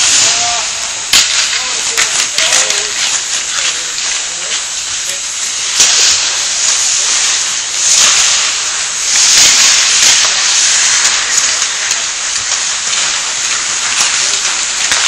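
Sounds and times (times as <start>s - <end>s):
skate blades scraping ice: 0.0s - 5.1s, 5.7s - 15.0s.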